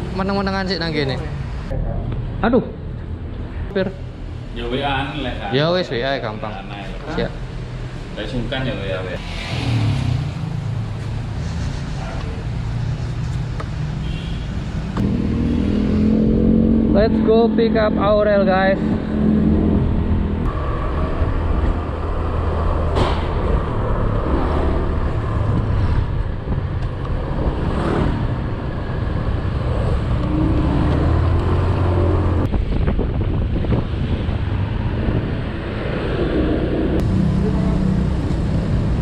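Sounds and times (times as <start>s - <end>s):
road and wind noise: 0.0s - 39.0s
vehicle engine rumble: 0.0s - 39.0s.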